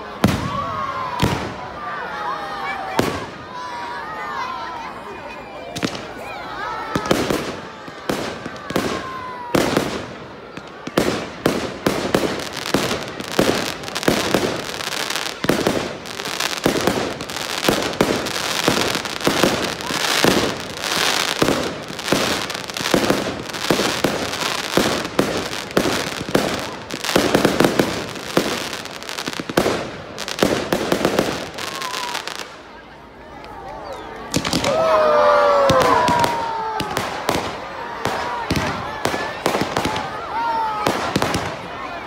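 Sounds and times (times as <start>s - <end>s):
fireworks bangs: 0.1s - 1.6s, 2.8s - 3.5s, 5.7s - 6.2s, 6.8s - 32.6s, 34.3s - 34.9s, 35.6s - 41.8s
fireworks crackling: 5.7s - 32.8s, 34.3s - 42.0s.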